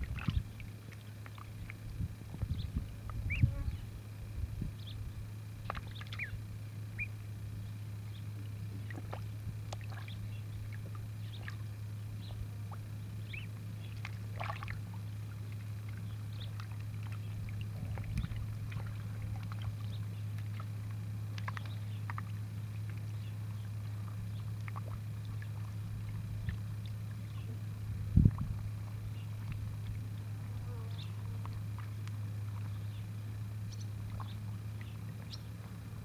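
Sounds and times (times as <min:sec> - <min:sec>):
ducklings peeping: 0:00.0 - 0:20.7, 0:21.3 - 0:25.7, 0:30.8 - 0:35.6
ducklings splashing in water: 0:00.0 - 0:36.0
steady low hum: 0:00.0 - 0:36.0.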